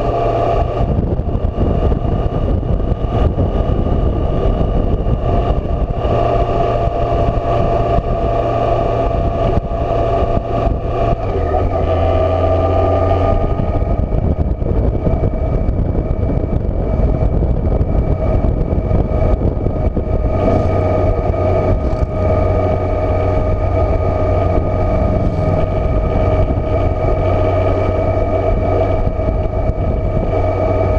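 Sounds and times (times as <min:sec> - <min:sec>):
motorcycle engine cruising: 0:00.0 - 0:30.9
wind noise: 0:00.0 - 0:30.9.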